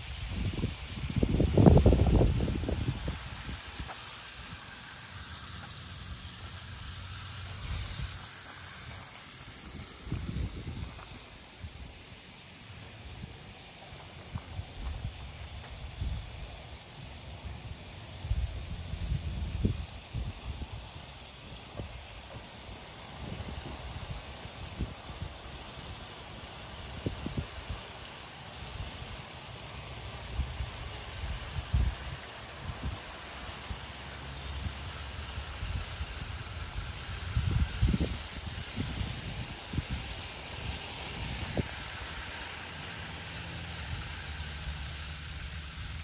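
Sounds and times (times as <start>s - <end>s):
outdoor background hiss: 0.0s - 46.0s
toy train whirring: 0.0s - 46.0s.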